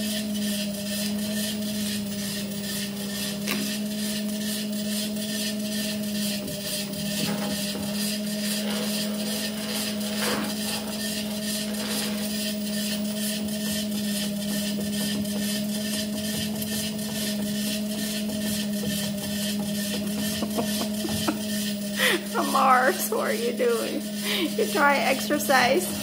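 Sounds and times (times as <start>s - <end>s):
treadmill belt ticking: 0.0s - 26.0s
treadmill motor hum: 0.0s - 26.0s.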